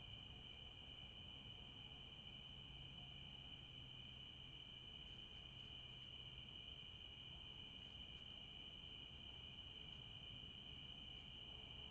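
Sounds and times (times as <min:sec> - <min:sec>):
crickets chirping: 0:00.0 - 0:11.9.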